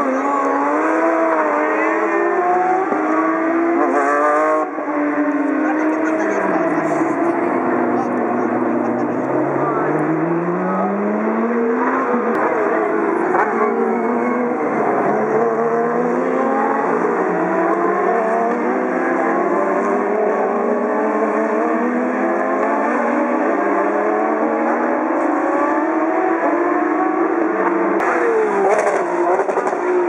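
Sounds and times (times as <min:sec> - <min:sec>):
race car engines accelerating: 0:00.0 - 0:30.0.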